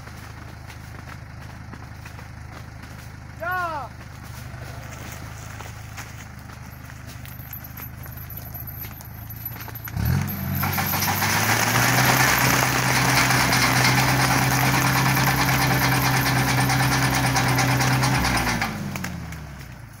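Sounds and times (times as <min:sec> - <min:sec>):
tractor engine: 0:00.0 - 0:20.0.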